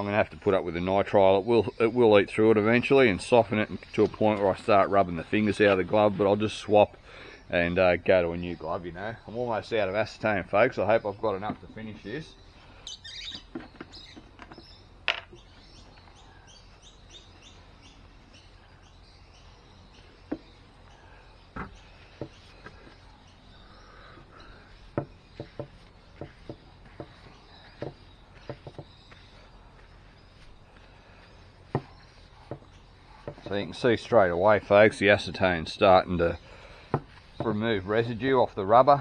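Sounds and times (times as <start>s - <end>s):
bird chirping: 0.0s - 39.0s.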